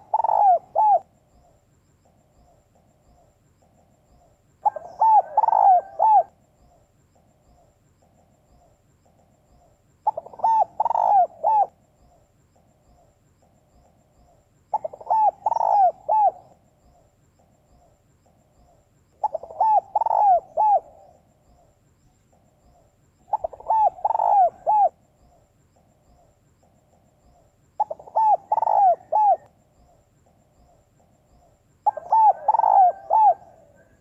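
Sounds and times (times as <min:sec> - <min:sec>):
dove cooing: 0:00.0 - 0:02.9, 0:03.6 - 0:09.3, 0:10.0 - 0:12.2, 0:14.2 - 0:17.0, 0:17.8 - 0:21.7, 0:22.3 - 0:34.0.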